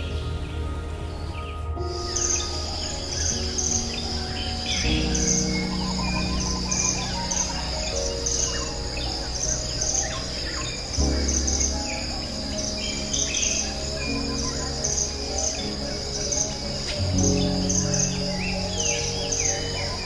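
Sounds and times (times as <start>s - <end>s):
insect trilling: 0.0s - 20.0s
small birds chirping: 0.0s - 20.0s
soft background music: 0.0s - 20.0s.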